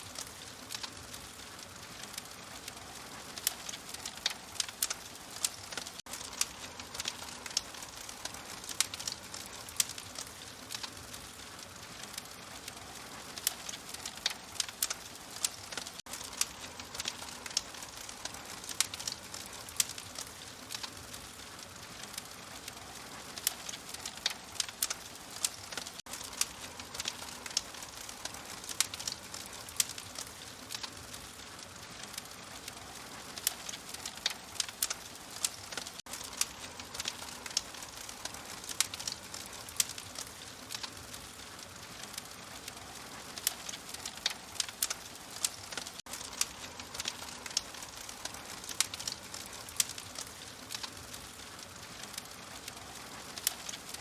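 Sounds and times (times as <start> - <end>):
open fire crackling: 0.0 - 54.0.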